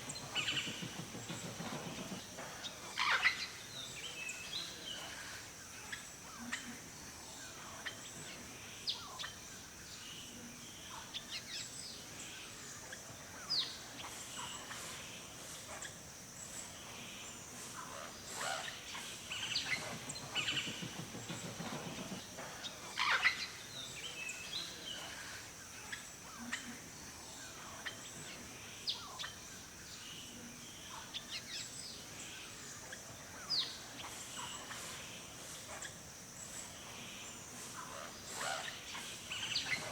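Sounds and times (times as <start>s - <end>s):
forest birds chirping: 0.0s - 39.9s
steady high hiss: 0.0s - 39.9s.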